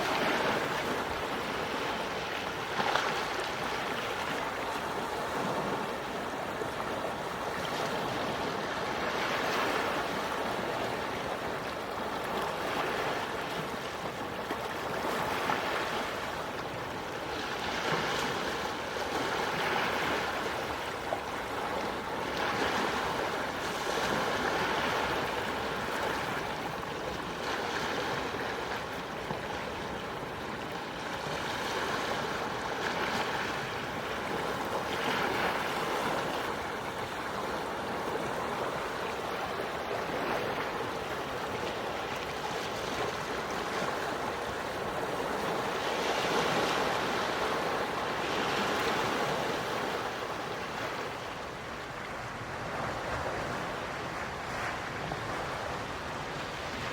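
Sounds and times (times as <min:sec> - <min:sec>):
gentle sea waves washing ashore: 0:00.0 - 0:56.9.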